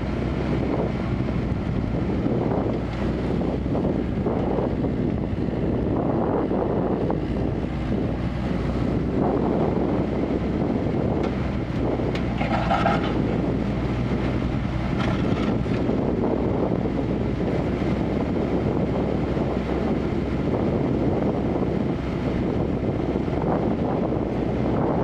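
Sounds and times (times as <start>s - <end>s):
excavator diesel engine drone: 0.0s - 25.0s.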